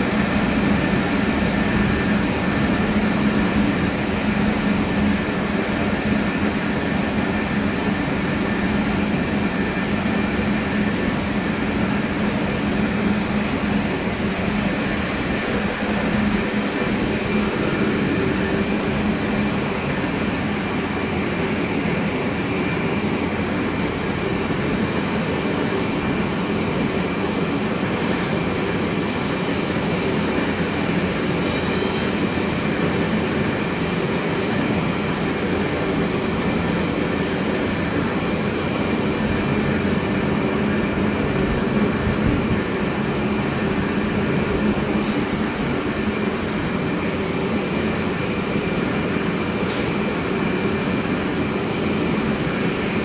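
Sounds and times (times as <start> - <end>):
lathe machine hum with whine: 0.0 - 53.0.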